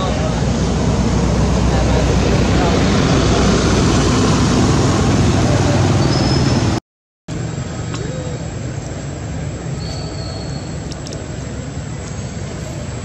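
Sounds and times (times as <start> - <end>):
loud outdoor rumble and hiss: 0.0 - 13.0.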